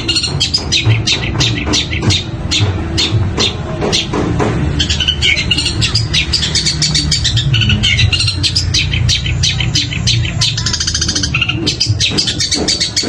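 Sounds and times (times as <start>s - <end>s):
bird chirping rapidly: 0.0s - 13.0s.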